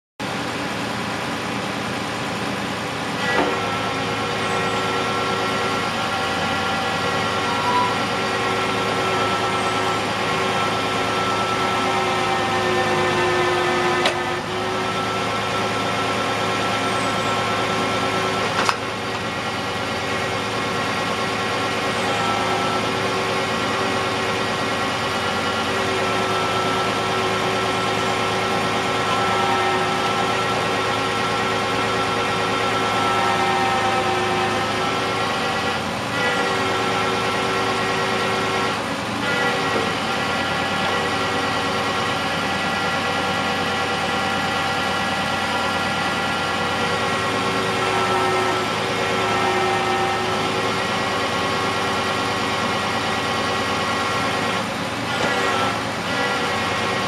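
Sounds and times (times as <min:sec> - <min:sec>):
tractor diesel engine running: 0:00.2 - 0:57.0.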